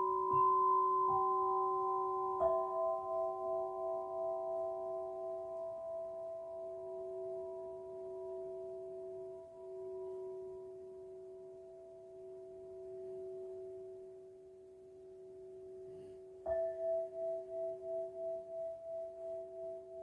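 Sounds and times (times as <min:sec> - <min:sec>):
crystal singing bowl ringing: 0:00.0 - 0:20.0.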